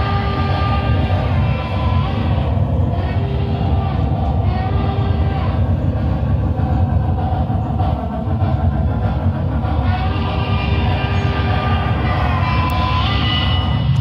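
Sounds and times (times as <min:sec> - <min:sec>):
steam train running sounds: 0:00.0 - 0:14.0.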